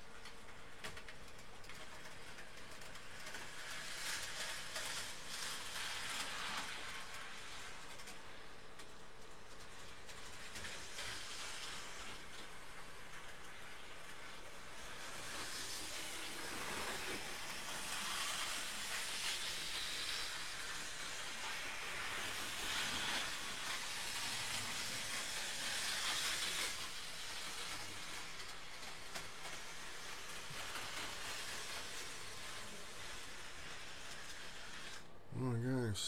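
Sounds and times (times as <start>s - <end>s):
model train running on track: 0.0s - 36.0s.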